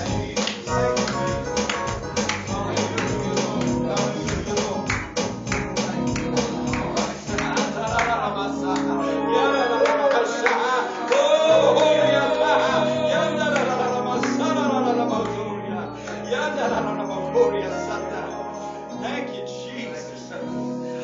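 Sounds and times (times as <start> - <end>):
instrumental accompaniment: 0.0 - 21.0
person singing: 0.0 - 21.0.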